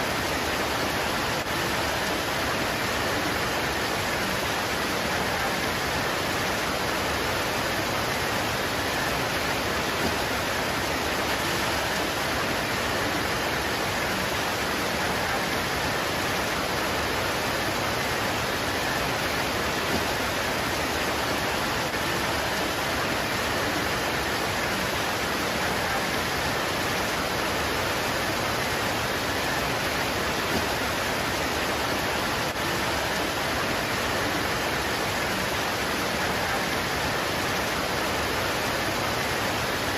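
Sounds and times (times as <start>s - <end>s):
rain pouring on leaves: 0.0s - 39.9s.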